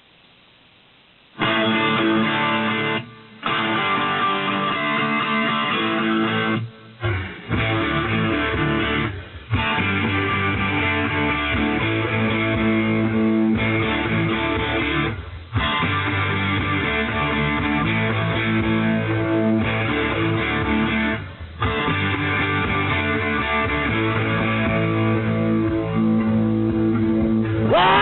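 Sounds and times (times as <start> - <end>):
strummed electric guitar: 1.4 - 28.0
rock band playing: 3.6 - 28.0.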